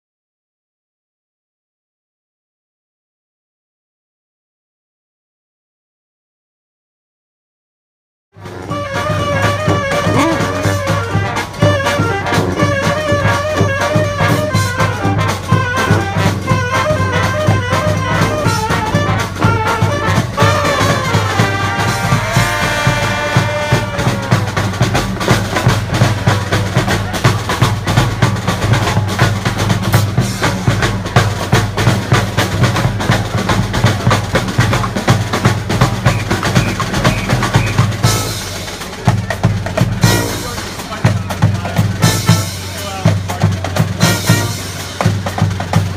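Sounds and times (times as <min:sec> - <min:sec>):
brass horns playing melody: 0:08.4 - 0:45.7
drum beat: 0:08.4 - 0:45.9.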